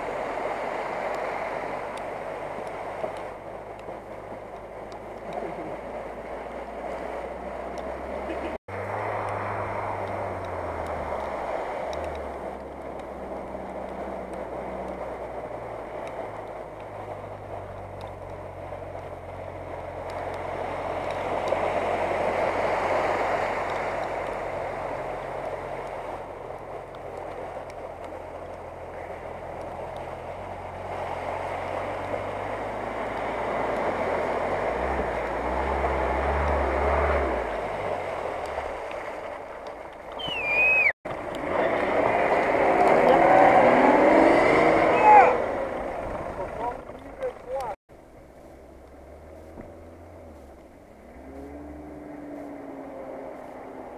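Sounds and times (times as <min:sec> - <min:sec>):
water splashing: 0:00.0 - 0:53.9
truck engine under load: 0:02.2 - 0:53.9.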